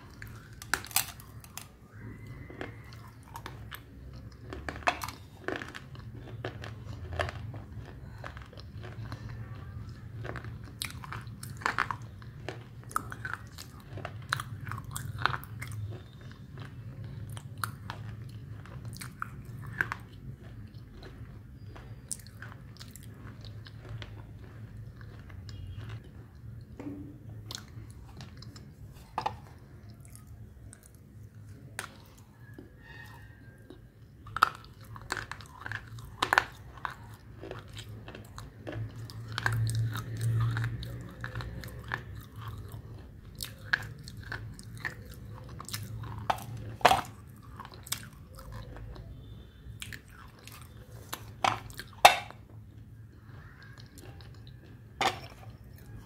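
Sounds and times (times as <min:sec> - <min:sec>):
person crunching hard food: 0:00.0 - 0:56.0.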